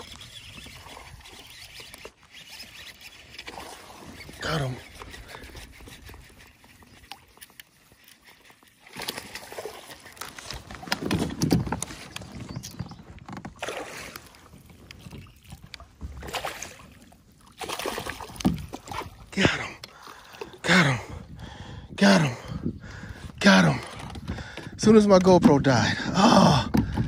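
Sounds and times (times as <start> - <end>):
water splashing around kayak: 0.0 - 27.0.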